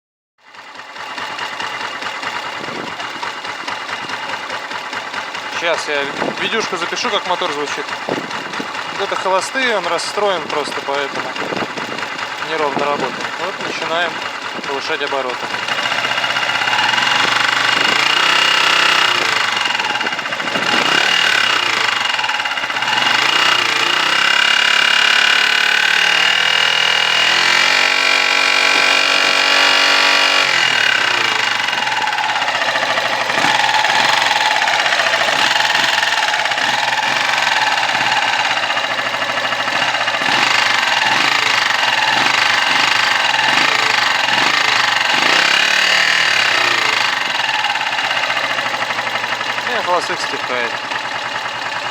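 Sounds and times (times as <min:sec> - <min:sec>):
engine knock: 0:00.4 - 0:51.9
motorcycle engine revving: 0:00.4 - 0:51.9.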